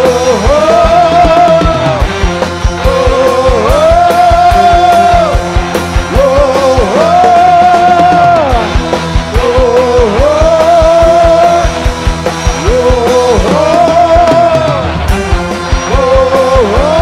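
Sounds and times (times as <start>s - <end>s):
drums quick steady beat: 0.0s - 17.0s
live band playing: 0.0s - 17.0s.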